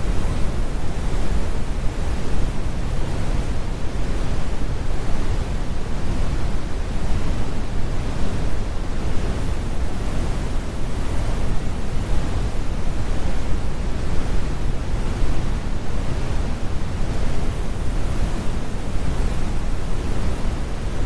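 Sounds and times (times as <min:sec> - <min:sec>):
brown noise rumble: 0:00.0 - 0:21.0.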